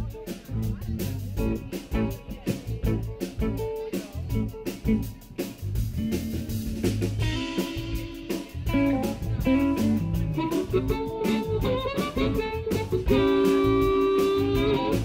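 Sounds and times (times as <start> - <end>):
blues band playing: 0.0 - 15.0
electric guitar lines: 0.0 - 15.0
drum hits: 0.8 - 15.0.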